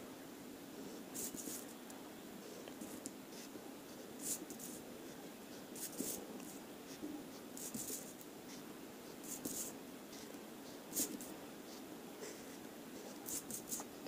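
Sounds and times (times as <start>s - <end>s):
low room hum: 0.0s - 14.0s
marker scratching on paper: 1.2s - 1.7s, 2.5s - 12.4s, 13.0s - 13.9s.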